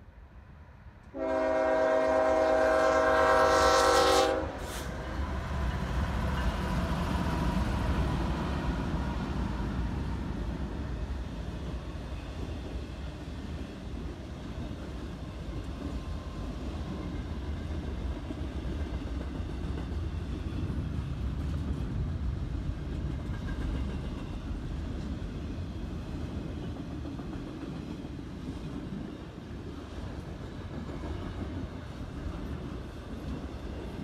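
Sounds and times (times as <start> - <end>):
freight train wheels rumbling: 1.0 - 34.0.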